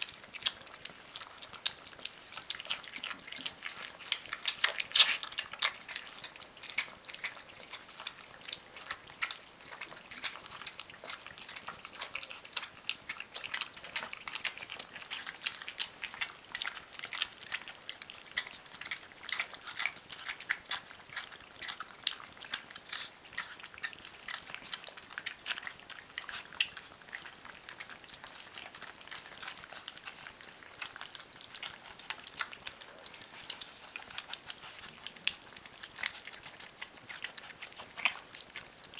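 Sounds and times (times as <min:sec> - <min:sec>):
puppies lapping and chewing: 0:00.0 - 0:38.9.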